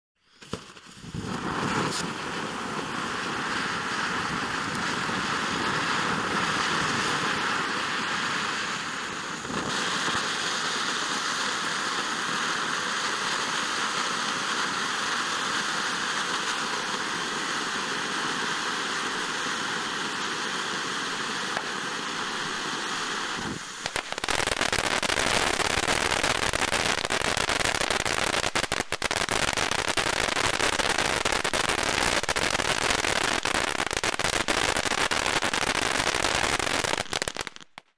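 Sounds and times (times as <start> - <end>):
fountain firework hissing: 0.2 - 37.8
firework crackling: 0.2 - 37.9.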